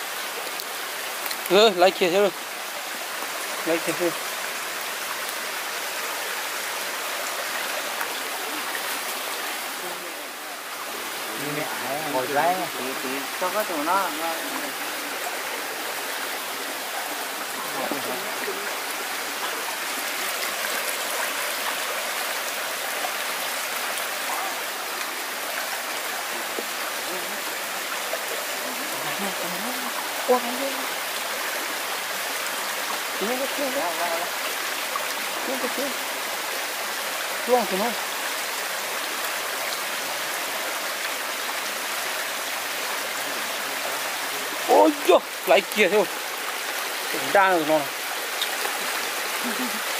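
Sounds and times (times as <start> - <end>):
stream rushing over stones: 0.0 - 49.9.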